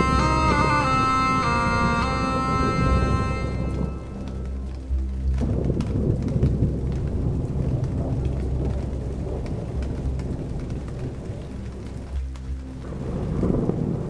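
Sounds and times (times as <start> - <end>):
thunder rumbling: 0.0 - 12.2, 12.8 - 14.0
rain: 0.0 - 14.0.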